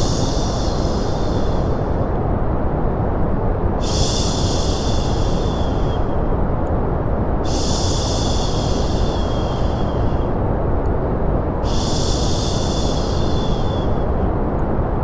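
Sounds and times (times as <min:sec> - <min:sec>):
white noise hiss: 0:00.0 - 0:15.0.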